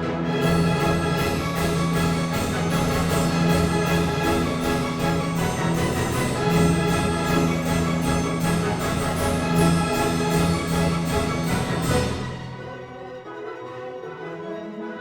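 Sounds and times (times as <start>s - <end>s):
orchestral music with beat: 0.0s - 13.7s.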